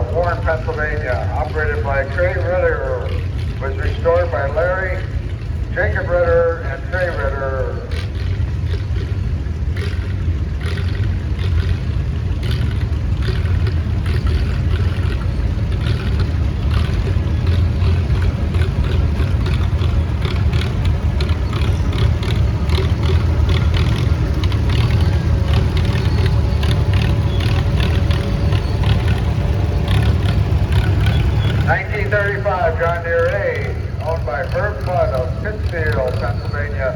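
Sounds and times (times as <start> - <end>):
tractor engine driving by: 0.0 - 36.9.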